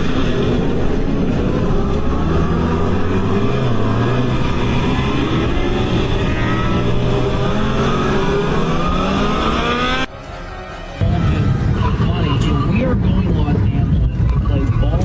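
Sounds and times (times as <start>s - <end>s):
road noise: 0.0s - 15.0s
vehicle engine accelerating: 0.0s - 15.0s.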